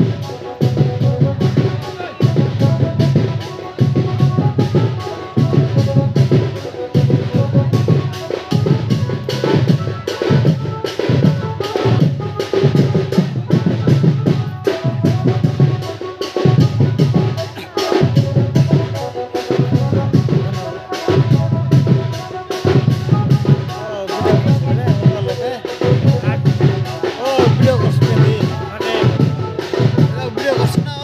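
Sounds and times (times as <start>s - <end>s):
driving drum rhythm: 0.0s - 31.0s.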